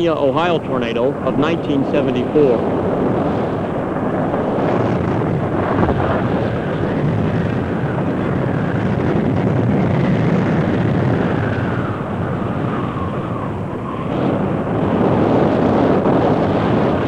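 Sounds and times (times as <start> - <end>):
tornado wind roar: 0.0 - 17.0.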